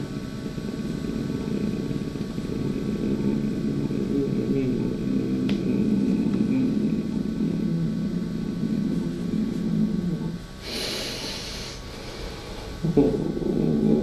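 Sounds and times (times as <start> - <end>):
low rumbling murmur: 0.0 - 14.0.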